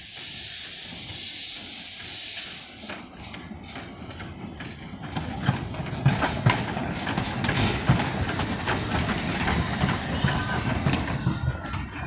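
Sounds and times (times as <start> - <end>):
steam train wheels clattering: 0.0 - 12.0.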